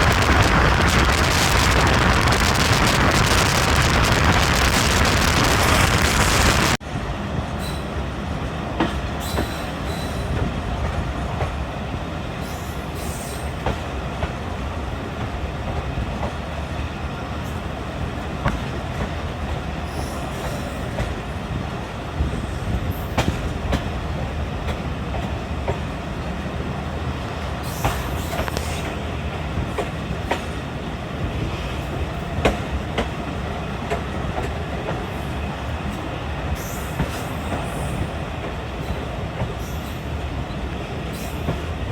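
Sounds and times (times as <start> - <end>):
train rumbling along track: 0.0 - 41.9.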